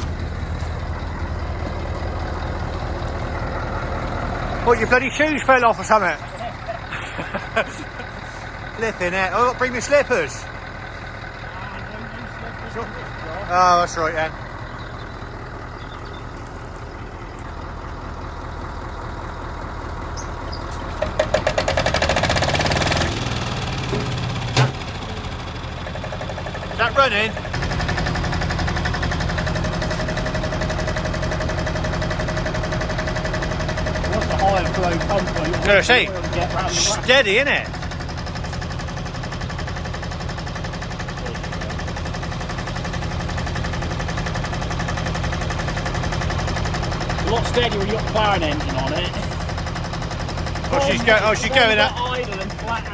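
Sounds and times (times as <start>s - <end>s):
engine idling: 0.0s - 52.9s
fast even engine clatter: 0.0s - 52.9s.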